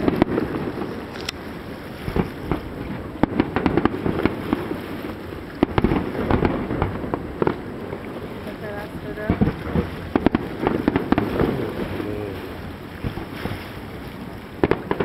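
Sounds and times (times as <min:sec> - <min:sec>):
fireworks bangs and crackles: 0:00.0 - 0:12.4, 0:13.0 - 0:13.6, 0:14.6 - 0:15.0.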